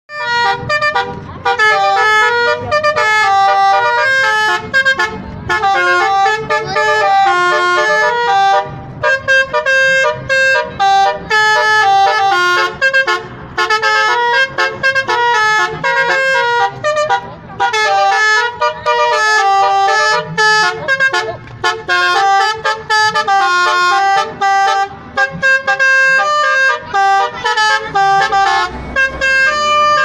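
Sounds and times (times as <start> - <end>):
musical horn playing a tune: 0.1 - 30.0.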